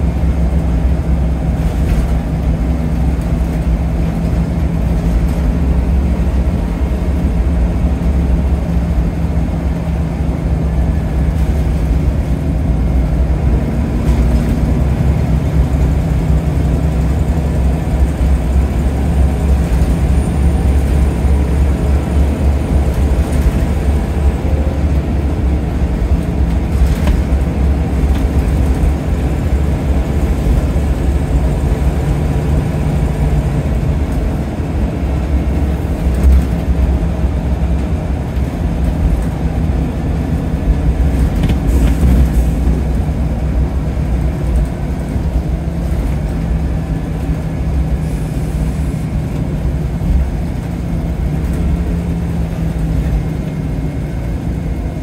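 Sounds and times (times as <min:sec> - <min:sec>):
bus engine drone: 0:00.0 - 0:55.0
road and body noise: 0:00.0 - 0:55.0.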